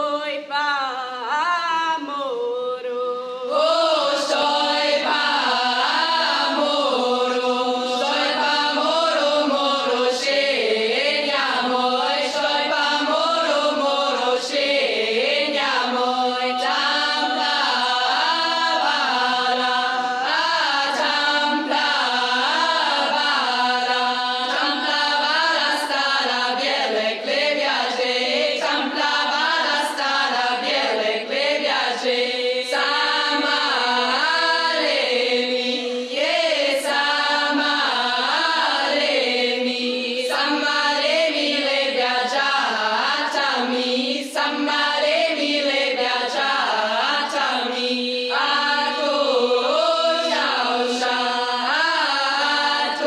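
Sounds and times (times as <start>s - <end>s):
girls' choir singing a cappella: 0.0s - 53.0s.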